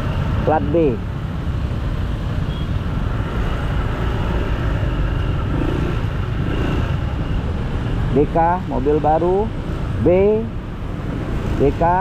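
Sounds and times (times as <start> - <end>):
surrounding traffic: 0.0 - 12.0.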